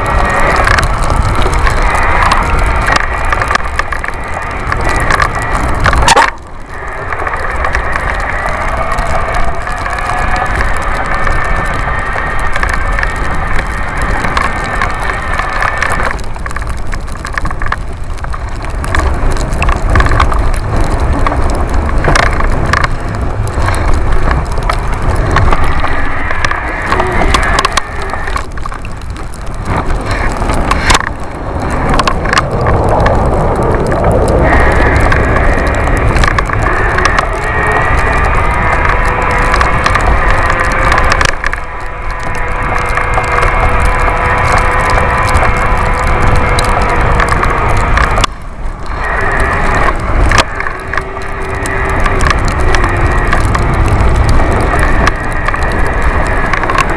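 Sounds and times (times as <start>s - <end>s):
wind rumbling on microphone: 0.0s - 56.9s.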